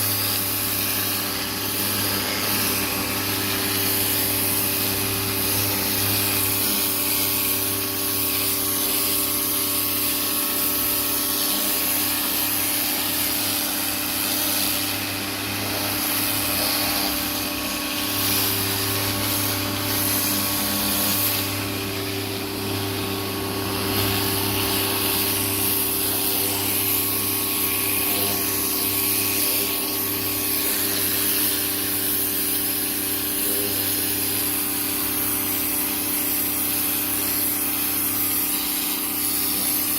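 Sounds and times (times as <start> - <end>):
pressure washer motor humming: 0.0 - 39.9.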